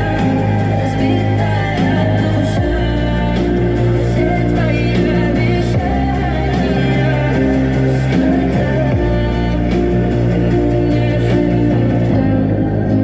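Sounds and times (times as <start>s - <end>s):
loud guitar and bass music: 0.0s - 13.0s.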